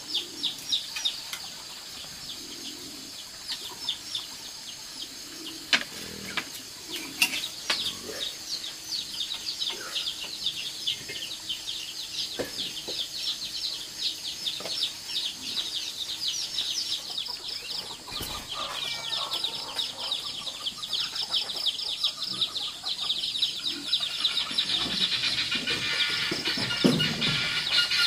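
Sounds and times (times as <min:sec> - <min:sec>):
chickens peeping: 0:00.0 - 0:28.0.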